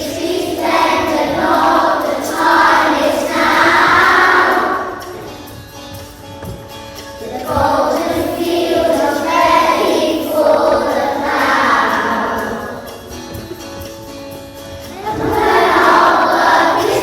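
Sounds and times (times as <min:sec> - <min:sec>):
children singing: 0:00.0 - 0:05.5, 0:07.2 - 0:13.8, 0:14.8 - 0:17.0
musical accompaniment: 0:00.0 - 0:17.0.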